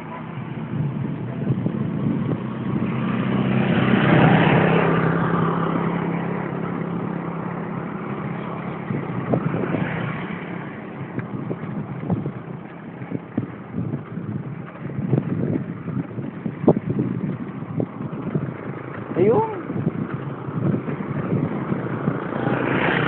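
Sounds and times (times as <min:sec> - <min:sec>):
vehicle engine passing by: 0:00.0 - 0:23.0
wind rush: 0:00.0 - 0:23.0
mountain bike rattling on rough ground: 0:04.2 - 0:23.0.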